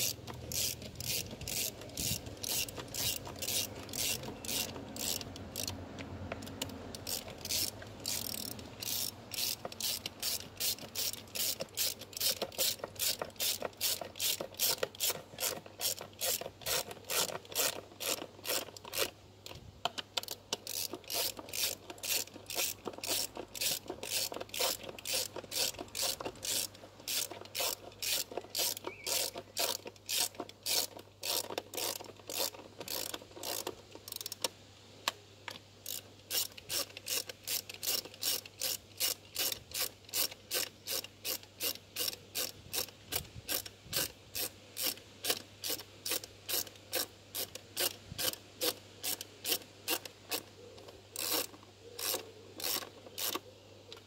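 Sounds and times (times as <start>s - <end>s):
ratchet wrench clicking: 0.0s - 19.2s, 20.2s - 34.5s, 35.8s - 50.5s, 51.2s - 53.4s.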